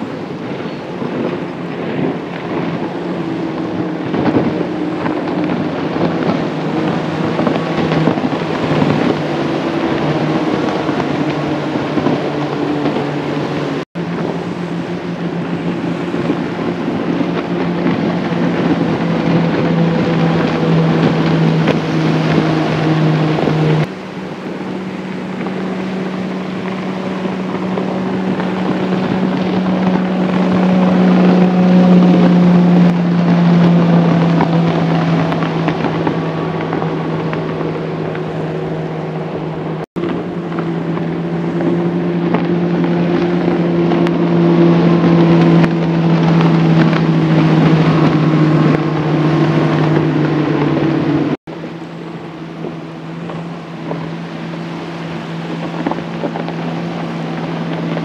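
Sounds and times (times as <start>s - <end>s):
outboard motors passing: 0.0s - 58.0s.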